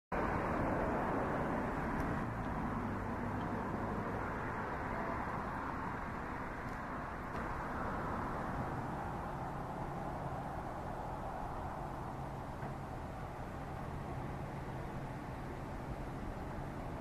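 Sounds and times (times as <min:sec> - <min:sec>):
outdoor rumble and hiss: 0:00.1 - 0:17.0.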